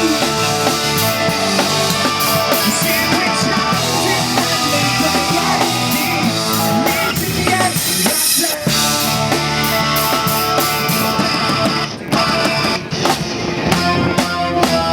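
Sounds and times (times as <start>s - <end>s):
pop rock band playing: 0.0s - 14.9s.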